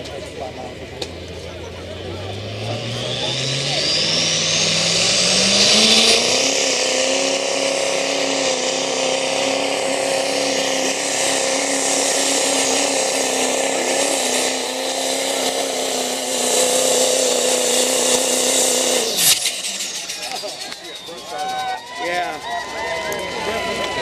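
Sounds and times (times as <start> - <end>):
diesel truck engine at high revs: 0.0 - 24.0.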